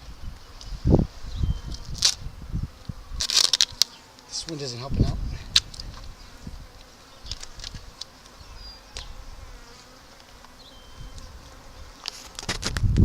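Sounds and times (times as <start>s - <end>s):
wind rumbling on microphone: 0.0s - 3.8s, 4.7s - 9.7s, 10.8s - 13.0s
bees buzzing: 0.0s - 12.5s.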